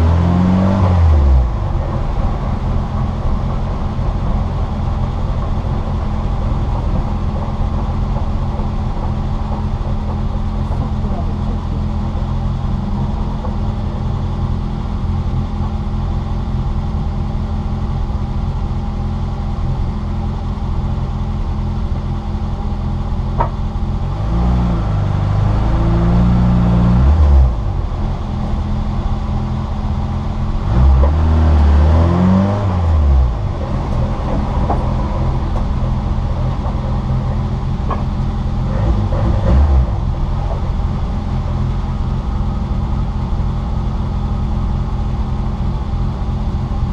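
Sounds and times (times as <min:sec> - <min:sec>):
car engine revving: 0:00.0 - 0:19.8, 0:22.4 - 0:46.9.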